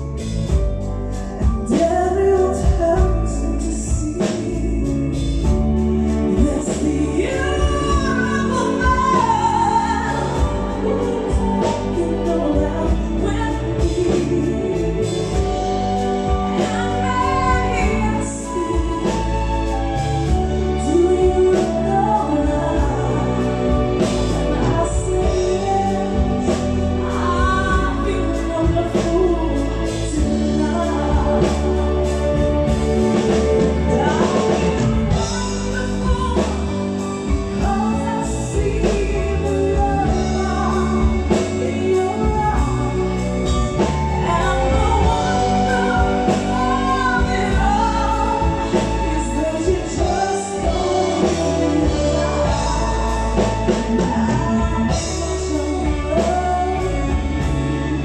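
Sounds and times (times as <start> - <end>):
band accompaniment: 0.0 - 58.0
woman singing: 0.0 - 58.0.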